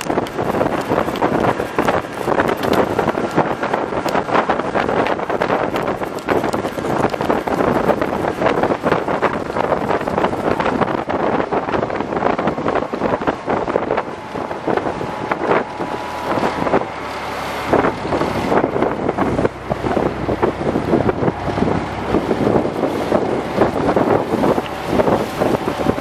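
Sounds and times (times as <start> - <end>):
boat engine running: 0.0 - 26.0
water rushing past hull: 0.0 - 26.0
wind buffeting microphone: 0.0 - 26.0.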